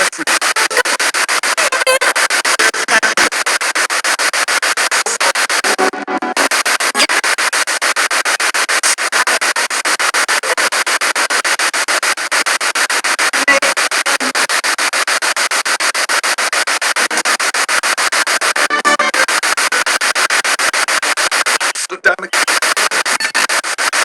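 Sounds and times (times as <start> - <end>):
pulsing radio static: 0.0 - 24.0.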